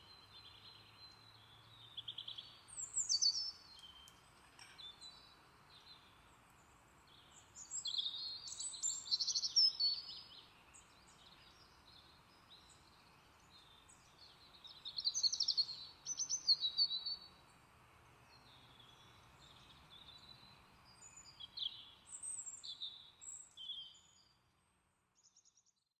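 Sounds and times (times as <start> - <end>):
faint outdoor background noise: 0.0 - 26.0.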